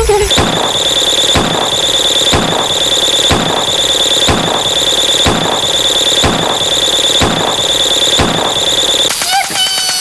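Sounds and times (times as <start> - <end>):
dense noisy clutter: 0.0 - 10.0
shrill high-pitched whine: 0.0 - 10.0
booming hits: 0.2 - 9.1.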